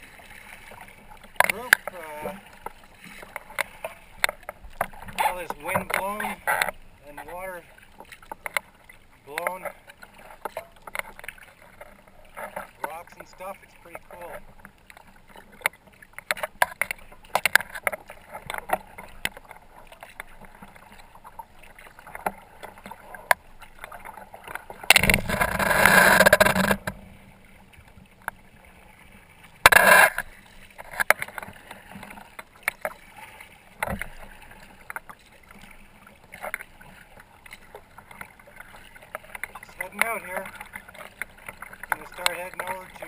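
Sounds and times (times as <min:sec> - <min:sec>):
paddle splashing water: 0:00.0 - 0:43.0.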